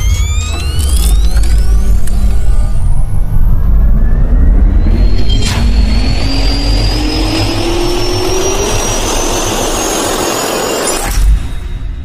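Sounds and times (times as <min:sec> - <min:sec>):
jet turbine spooling up: 0:00.0 - 0:11.6.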